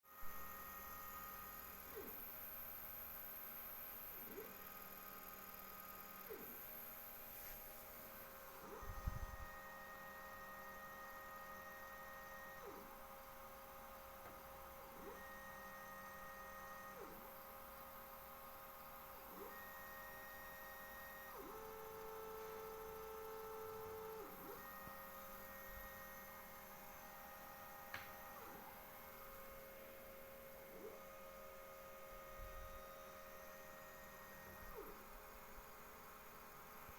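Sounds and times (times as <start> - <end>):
steady electrical hum: 0.1 - 36.9.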